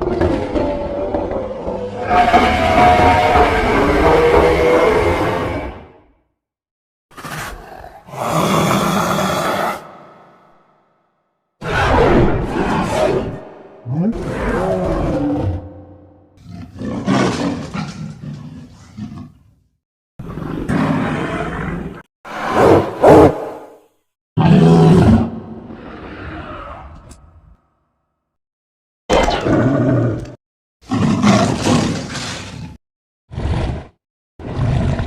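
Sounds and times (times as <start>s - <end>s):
lion-like monster roar: 0.0s - 6.1s, 7.2s - 10.6s, 11.6s - 19.4s, 20.2s - 23.8s, 24.4s - 27.2s, 29.3s - 35.0s.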